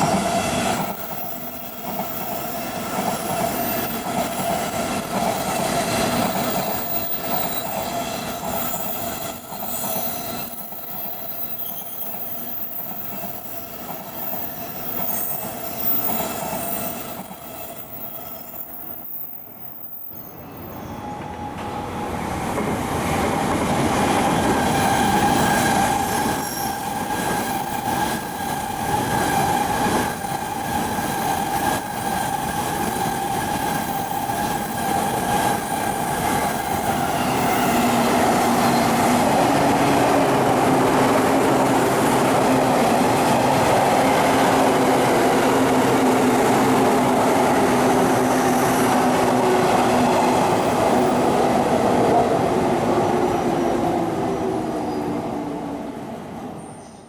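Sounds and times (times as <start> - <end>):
electric trains passing: 0.0 - 57.0
rail noise: 0.0 - 57.0.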